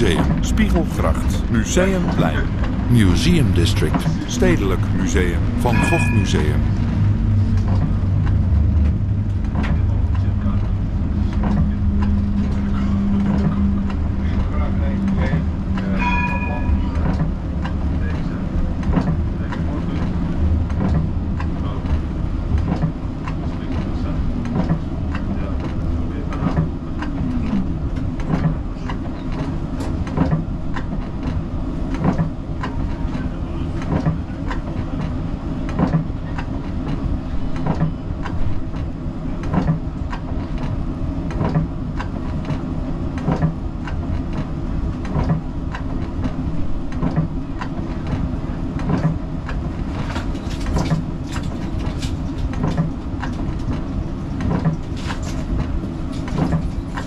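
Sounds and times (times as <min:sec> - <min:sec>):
tram wheels rumbling: 0:00.0 - 0:57.0.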